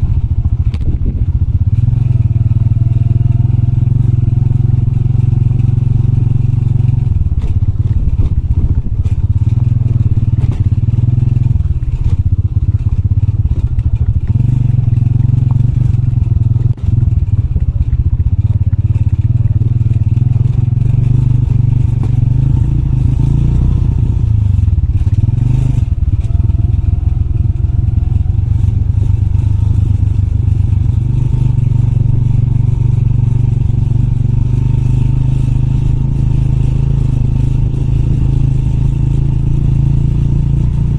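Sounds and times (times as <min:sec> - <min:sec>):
motorbike engine running: 0:00.0 - 0:40.9
rattling and scraping on rough trail: 0:00.0 - 0:40.9.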